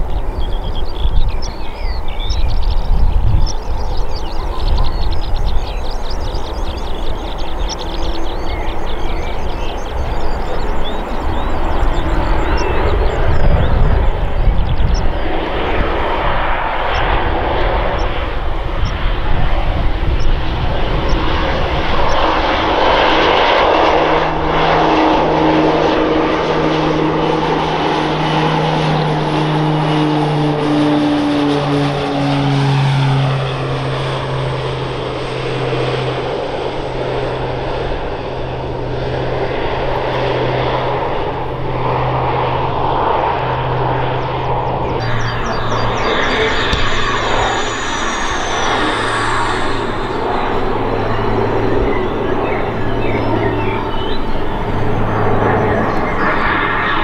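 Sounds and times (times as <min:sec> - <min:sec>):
turboprop aircraft flying past: 0:00.0 - 0:57.0.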